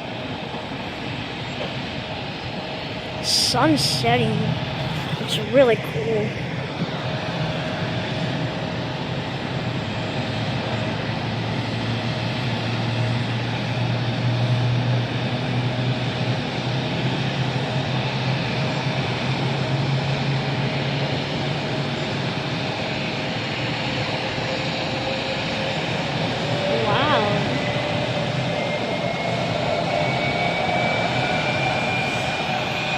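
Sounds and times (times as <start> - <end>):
airliner engines rushing: 0.0 - 32.9.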